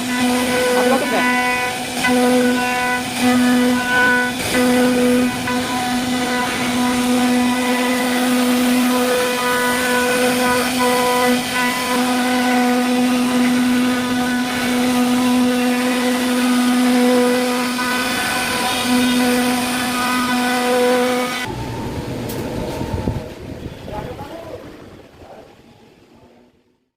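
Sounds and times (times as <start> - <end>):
wood-carving router spindle whine: 0.0 - 24.2.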